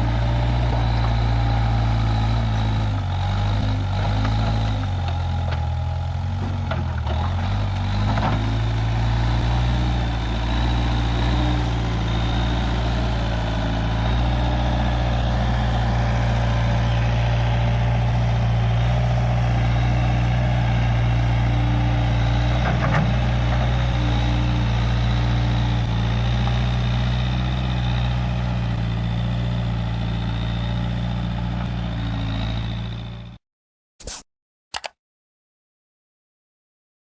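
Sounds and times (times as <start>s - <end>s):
diesel engine running: 0.0s - 33.4s.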